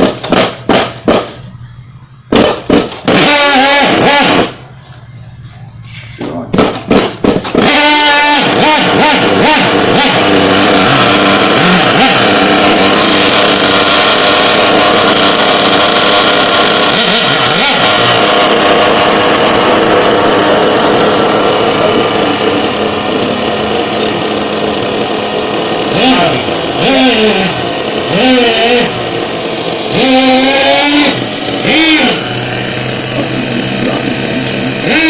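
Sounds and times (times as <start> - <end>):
rc car engine at high revs: 2.3 - 4.8, 6.6 - 35.0.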